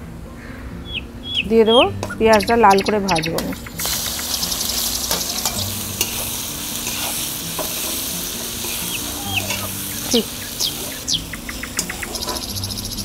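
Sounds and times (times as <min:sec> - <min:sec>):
onions sizzling in hot oil: 0:02.0 - 0:13.0.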